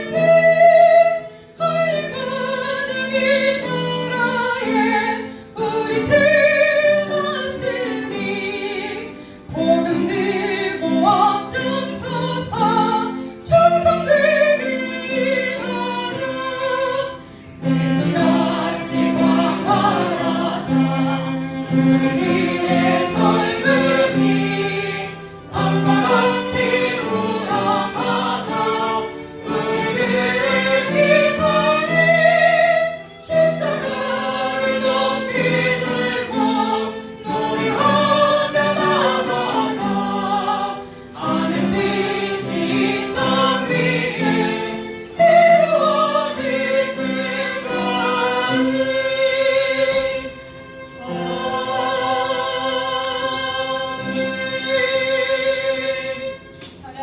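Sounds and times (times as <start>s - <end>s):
choir singing: 0.0s - 56.5s.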